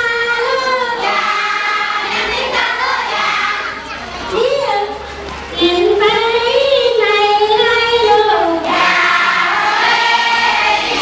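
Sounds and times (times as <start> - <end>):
children singing: 0.0 - 4.6, 5.6 - 11.0.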